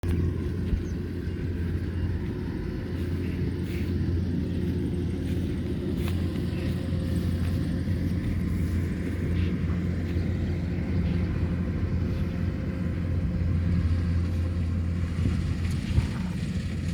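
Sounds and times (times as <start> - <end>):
harvester engine droning: 0.0 - 16.9.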